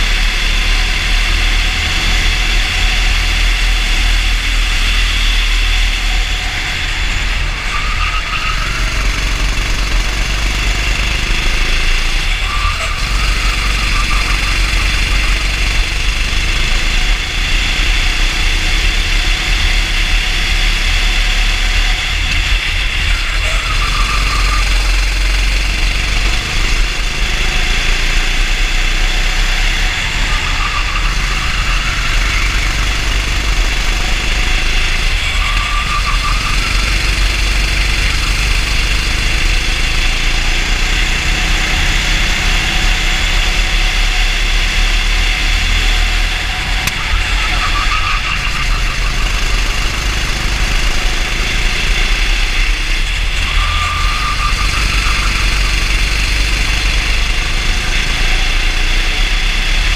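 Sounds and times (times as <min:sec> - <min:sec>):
kart engine running hard: 0:00.0 - 0:59.9.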